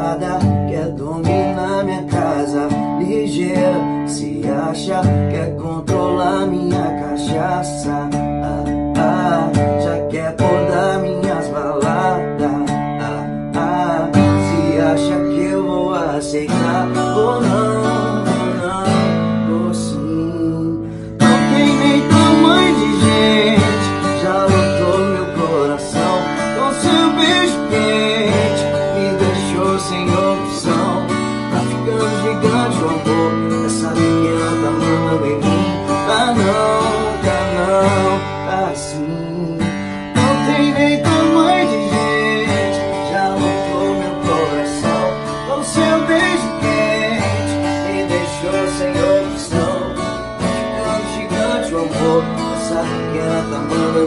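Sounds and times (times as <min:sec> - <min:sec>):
acoustic guitar picking and strumming: 0:00.0 - 0:54.0.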